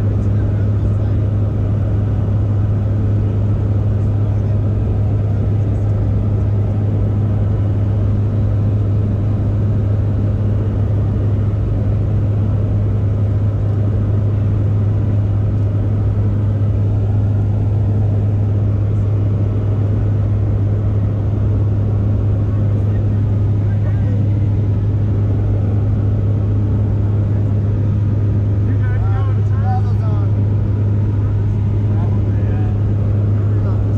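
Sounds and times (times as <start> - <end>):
plane engines droning in cabin: 0.0 - 33.9.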